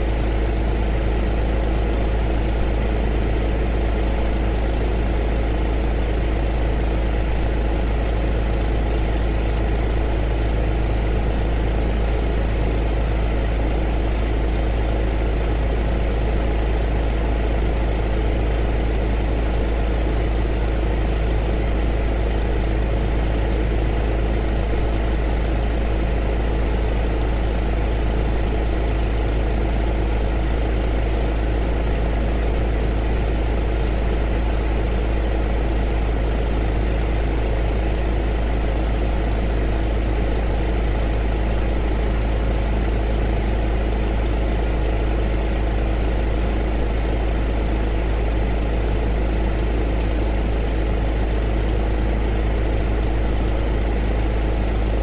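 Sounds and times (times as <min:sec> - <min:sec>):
heater running: 0:00.0 - 0:55.0.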